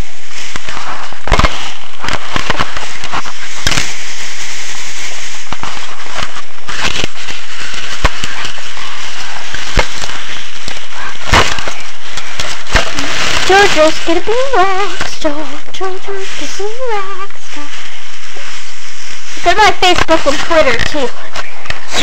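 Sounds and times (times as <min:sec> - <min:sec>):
pom-pom rustling against microphone: 0:00.3 - 0:22.0.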